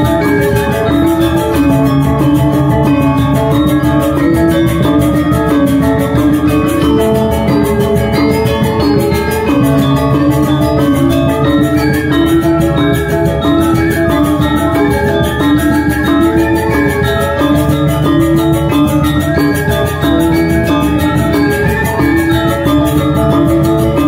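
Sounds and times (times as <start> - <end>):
drums driving rhythm: 0.0 - 24.0
metallophones ringing: 0.0 - 24.0.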